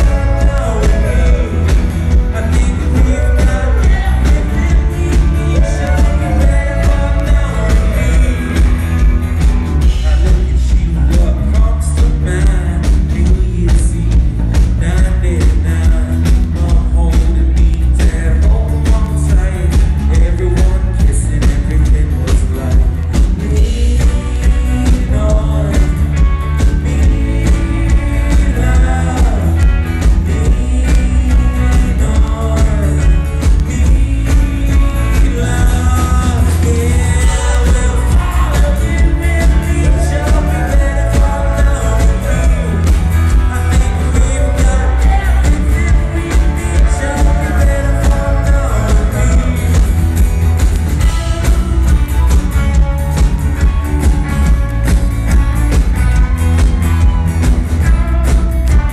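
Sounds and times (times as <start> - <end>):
lead vocals singing: 0.0 - 54.3
live rock band playing: 0.0 - 58.9.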